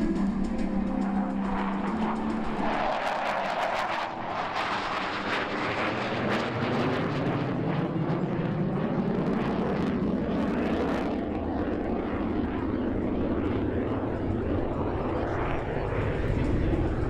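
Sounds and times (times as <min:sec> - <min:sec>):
fighter jet passing overhead: 0:00.0 - 0:17.0.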